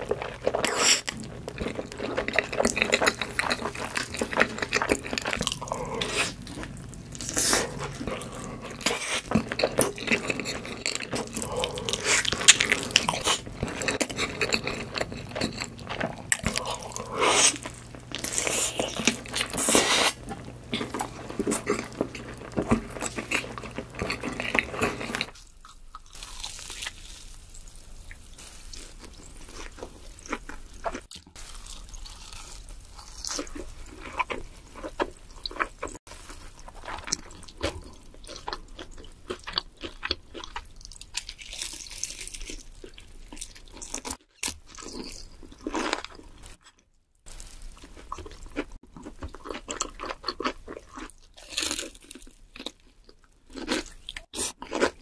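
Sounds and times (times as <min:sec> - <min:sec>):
crunching fried food: 0:00.0 - 0:55.0
wet chewing and mouth sounds: 0:00.0 - 0:55.0.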